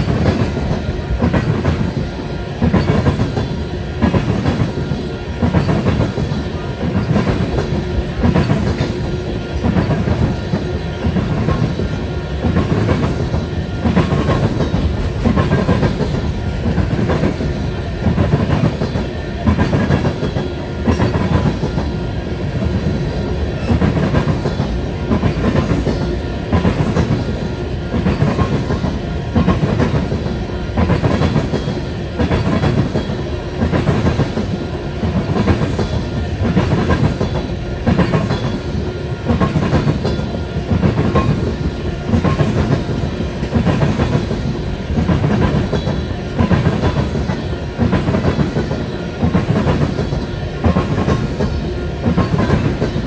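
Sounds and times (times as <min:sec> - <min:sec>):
train rumble: 0:00.0 - 0:53.0
train wheels clacking over rail joints: 0:00.0 - 0:53.0.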